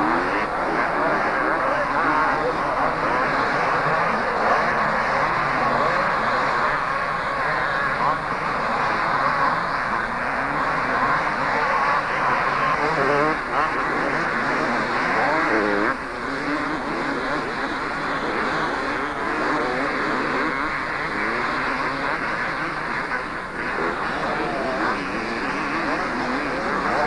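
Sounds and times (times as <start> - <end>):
motocross bikes revving: 0.0 - 27.0.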